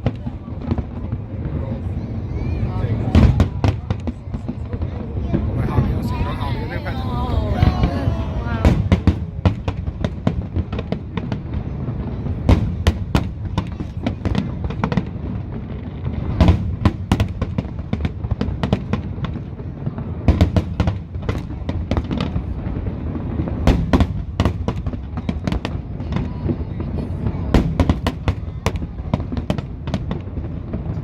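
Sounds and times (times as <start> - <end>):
fireworks bangs and crackles: 0.0 - 31.0
fireworks rumble: 0.0 - 31.0.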